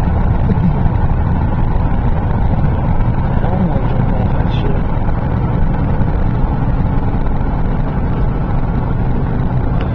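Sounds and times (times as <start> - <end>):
car interior engine and tyre rumble: 0.0 - 9.9.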